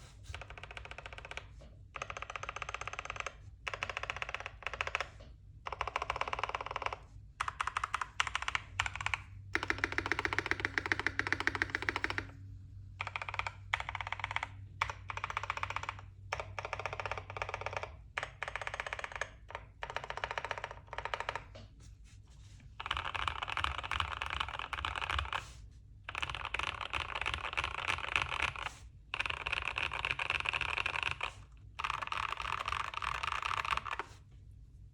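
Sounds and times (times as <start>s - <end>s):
mechanical keyboard typing: 0.3s - 12.4s, 13.0s - 21.6s, 22.8s - 34.2s.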